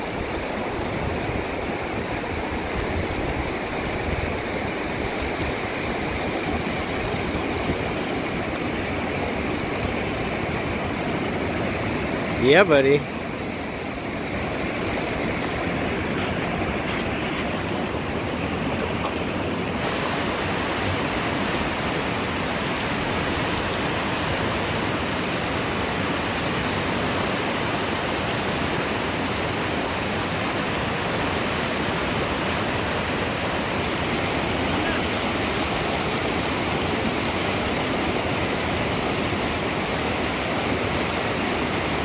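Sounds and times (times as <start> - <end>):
river rapids rushing: 0.0 - 42.0.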